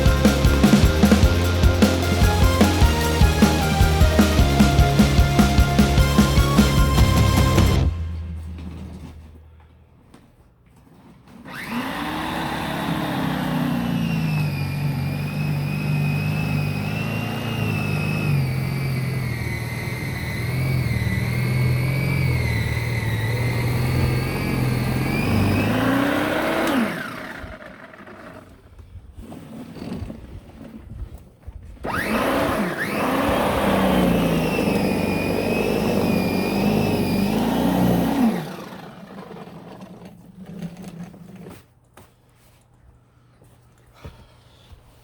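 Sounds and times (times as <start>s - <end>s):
snowblower running: 0.0s - 9.3s, 11.3s - 28.8s, 31.9s - 41.2s.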